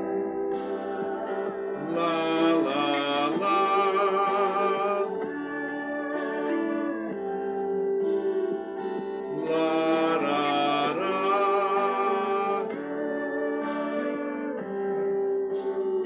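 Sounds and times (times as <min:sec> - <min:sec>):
guitar playing: 0:00.0 - 0:16.0
person singing wordless melody: 0:00.0 - 0:16.0.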